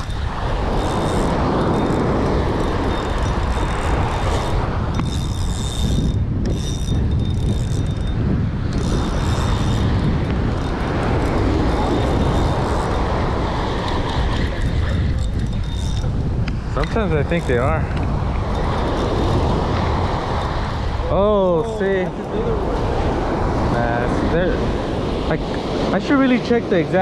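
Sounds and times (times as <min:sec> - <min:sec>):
surf washing up beach: 0:00.0 - 0:05.5, 0:08.1 - 0:27.0
wind buffeting microphone: 0:00.0 - 0:27.0.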